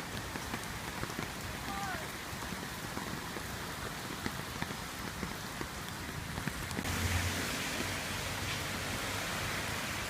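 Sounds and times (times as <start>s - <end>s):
heavy rain hissing: 0.0s - 10.0s
rushing floodwater: 0.0s - 10.0s.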